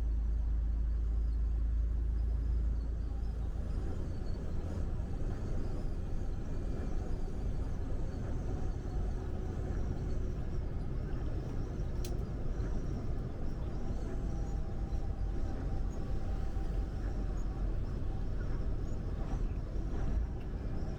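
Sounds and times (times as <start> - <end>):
truck engine and road rumble: 0.0 - 20.9.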